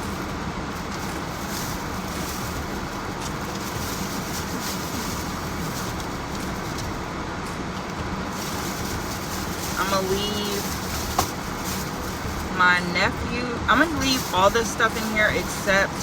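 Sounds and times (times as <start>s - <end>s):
car interior hum and hiss: 0.0s - 16.0s.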